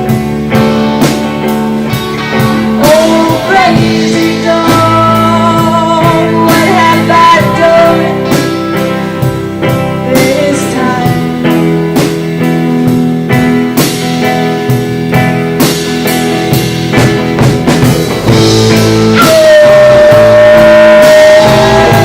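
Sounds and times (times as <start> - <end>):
lead guitar melody bending: 0.0 - 22.0
live rock band playing: 0.0 - 22.0.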